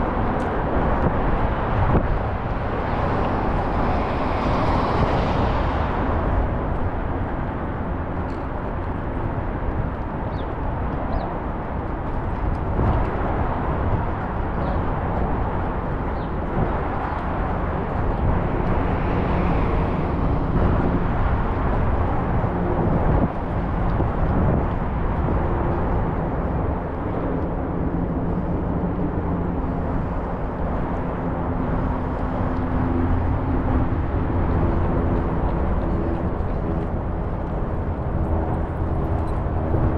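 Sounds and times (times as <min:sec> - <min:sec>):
road and wind noise: 0:00.0 - 0:39.9
traffic engine hum: 0:00.0 - 0:39.9.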